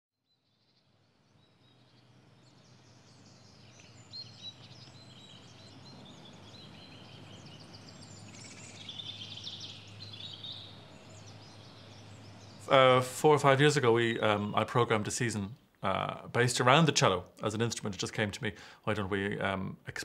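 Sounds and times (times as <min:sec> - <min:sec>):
birds chirping and trilling: 0:00.3 - 0:20.0.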